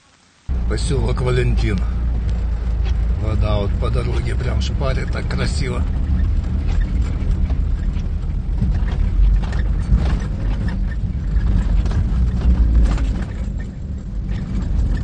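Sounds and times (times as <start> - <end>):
car driving low rumble: 0.5 - 15.0
water splashing against car: 0.5 - 15.0.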